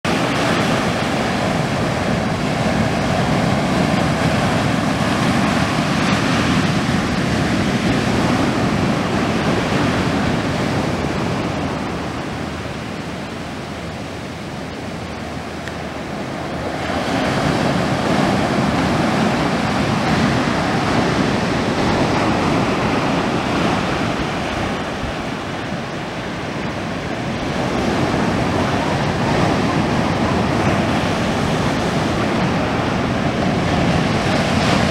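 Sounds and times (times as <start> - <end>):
surf breaking on rocky shore: 0.1 - 34.9.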